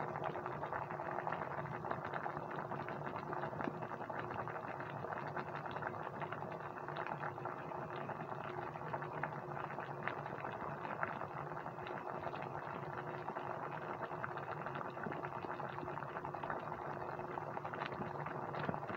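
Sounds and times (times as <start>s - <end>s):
faint steady hum: 0.0s - 18.9s
sauce boiling and popping in pan: 0.0s - 18.9s.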